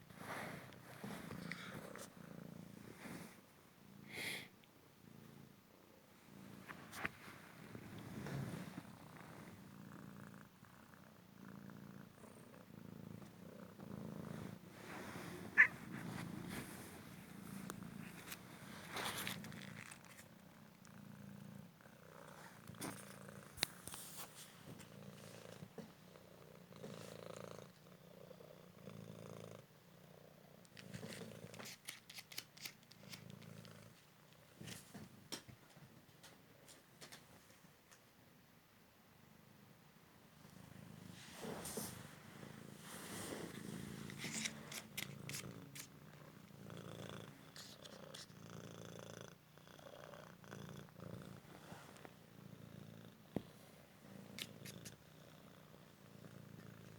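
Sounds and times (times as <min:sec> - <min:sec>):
cat purring: 0:00.0 - 0:35.8, 0:40.4 - 0:56.9.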